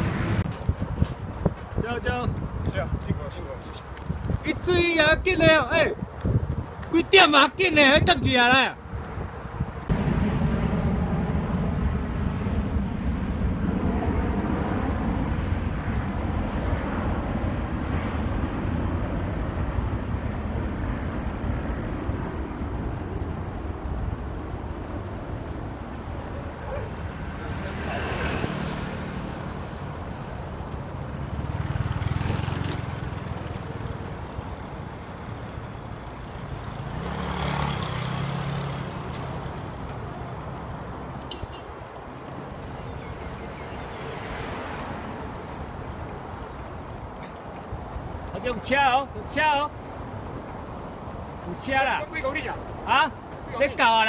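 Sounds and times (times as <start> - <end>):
vehicle driving on road: 0.0 - 54.0.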